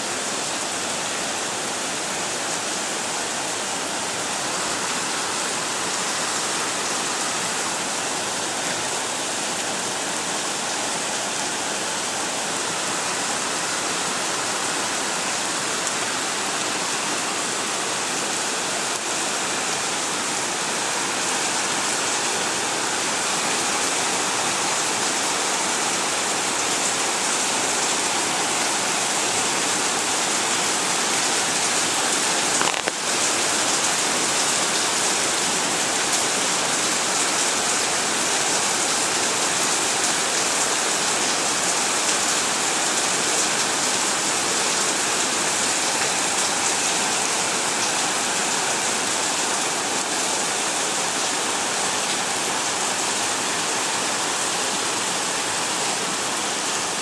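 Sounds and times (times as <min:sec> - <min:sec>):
heavy rain on street and cars: 0:00.0 - 0:57.0.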